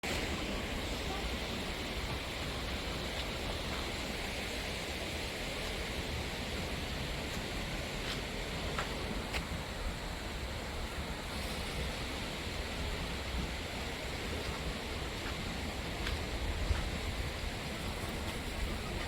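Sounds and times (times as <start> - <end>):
shallow stream rushing: 0.0 - 19.0
wind rumble on microphone: 0.1 - 19.0.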